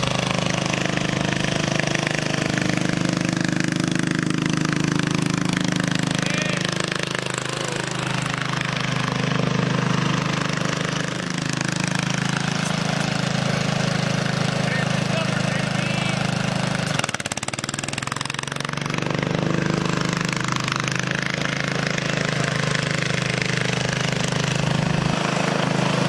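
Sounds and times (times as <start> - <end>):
garden tractor engine running: 0.0 - 26.0.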